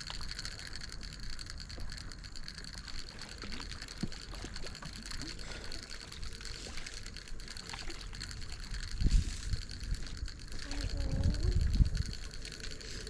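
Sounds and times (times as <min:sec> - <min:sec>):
high-pitched hum: 0:00.0 - 0:13.0
low rumble: 0:00.0 - 0:13.0
wind and water noise: 0:00.0 - 0:13.0.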